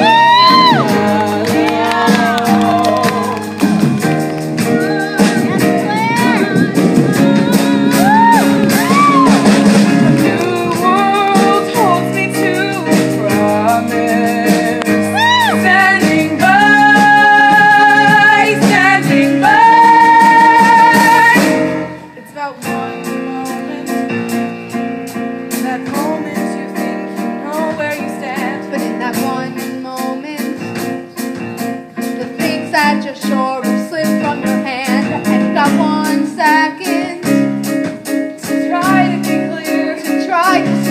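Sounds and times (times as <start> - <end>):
band accompaniment: 0.0 - 40.9.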